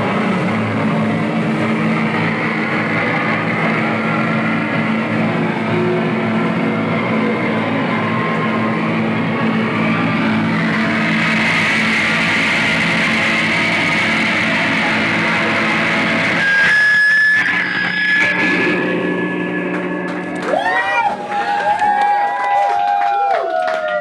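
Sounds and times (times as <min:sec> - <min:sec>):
crowd shouting: 0:00.0 - 0:16.7, 0:17.5 - 0:24.0
high tone ringing over drone: 0:00.0 - 0:21.7
rock band playing: 0:00.0 - 0:22.6
distorted electric guitar: 0:00.0 - 0:23.0.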